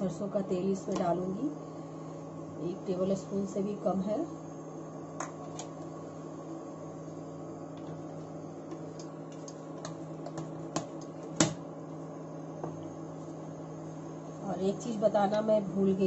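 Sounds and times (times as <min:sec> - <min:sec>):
induction cooktop humming: 0:00.0 - 0:16.0.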